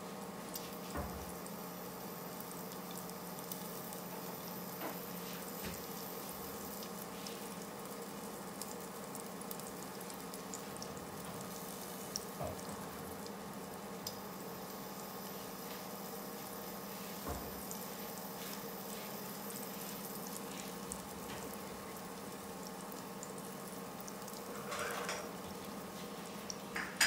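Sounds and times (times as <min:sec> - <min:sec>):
kebabs sizzling in a pan: 0:00.0 - 0:27.0.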